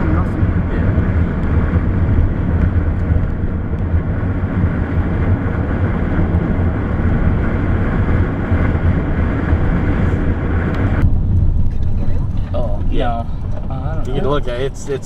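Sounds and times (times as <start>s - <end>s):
low road and engine rumble: 0.0s - 15.0s.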